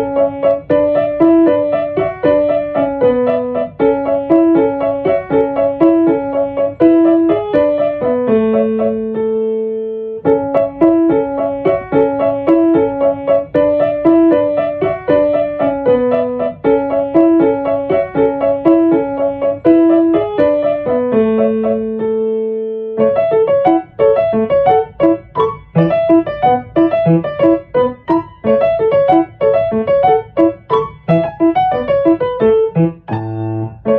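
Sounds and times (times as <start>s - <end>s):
light piano melody: 0.0s - 33.9s.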